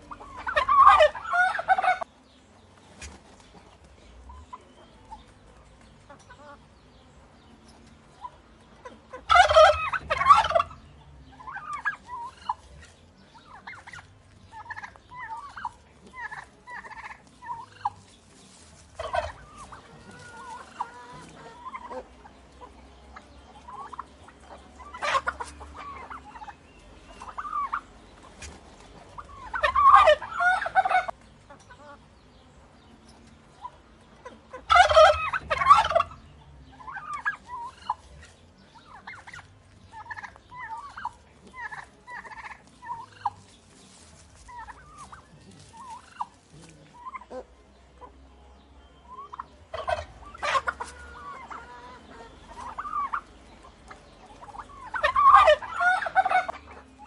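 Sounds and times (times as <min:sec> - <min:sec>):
turkeys gobbling: 0:00.0 - 0:32.1, 0:32.8 - 0:57.0.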